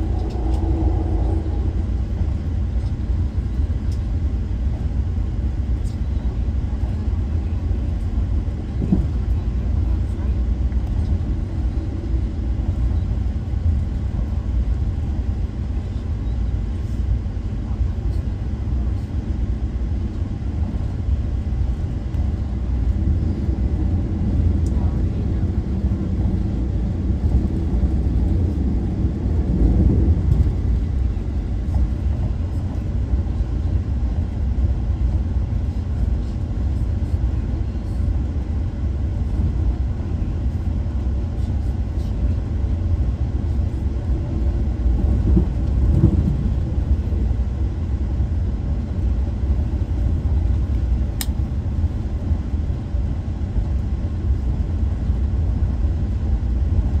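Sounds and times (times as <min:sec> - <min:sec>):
passenger train rumble: 0:00.0 - 0:57.0.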